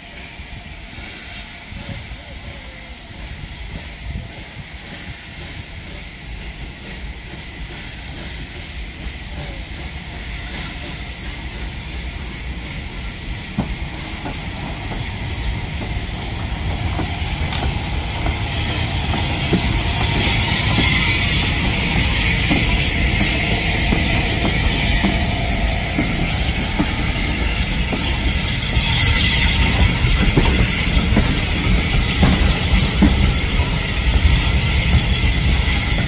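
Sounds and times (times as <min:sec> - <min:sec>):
steam hissing: 0:00.0 - 0:36.0
steam locomotive rumble: 0:00.0 - 0:36.0.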